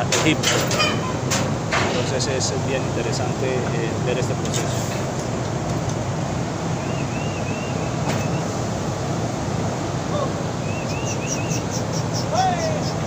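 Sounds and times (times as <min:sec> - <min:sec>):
low mechanical hum: 0:00.0 - 0:13.0
noisy hiss: 0:00.0 - 0:13.0.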